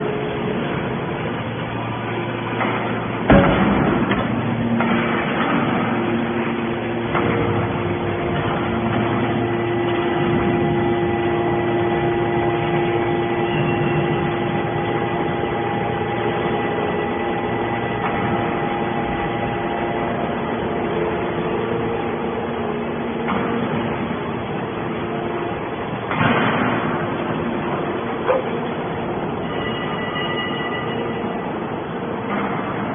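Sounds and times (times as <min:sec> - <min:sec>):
baler machine hum: 0:00.0 - 0:32.9.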